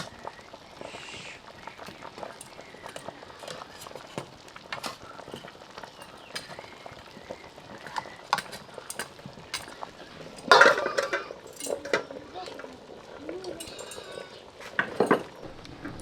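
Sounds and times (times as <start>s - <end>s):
cooking utensils clinking: 1.8s - 16.0s.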